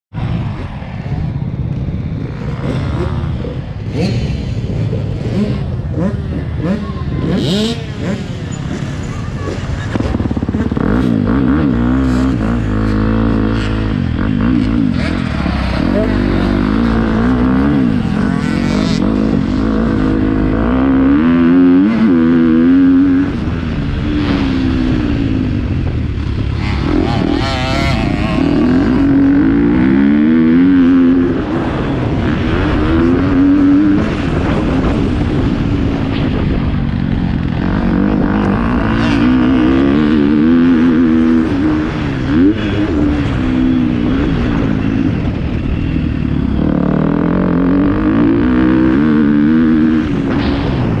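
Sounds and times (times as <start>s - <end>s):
dirt bike engine revving: 0.2s - 51.0s.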